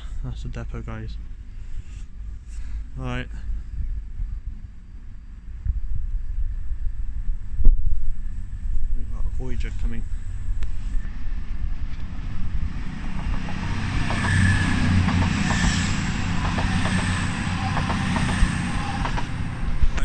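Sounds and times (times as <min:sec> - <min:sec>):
train passing rumble: 0:00.0 - 0:20.0.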